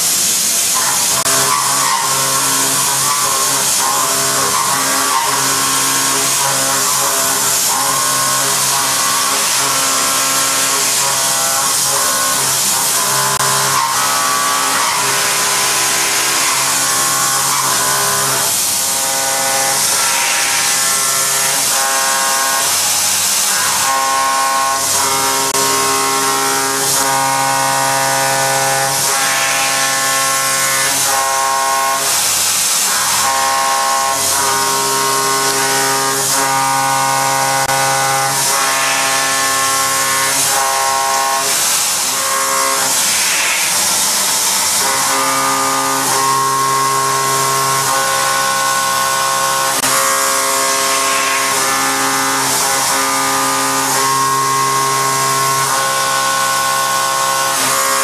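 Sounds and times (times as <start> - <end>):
milling machine cutting steel: 0.0 - 58.0.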